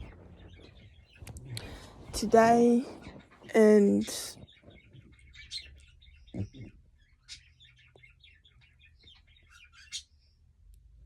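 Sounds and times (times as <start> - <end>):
budgies chirping: 0.0 - 10.4.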